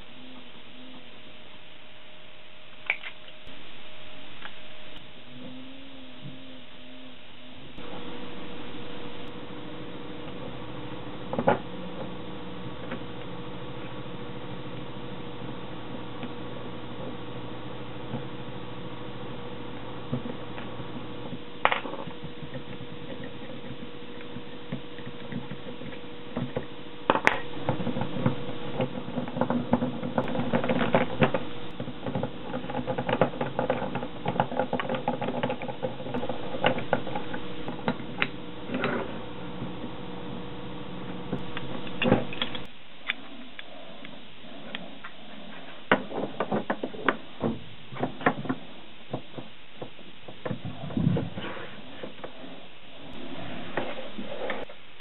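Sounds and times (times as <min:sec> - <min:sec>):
steady hum: 0:00.0 - 0:55.0.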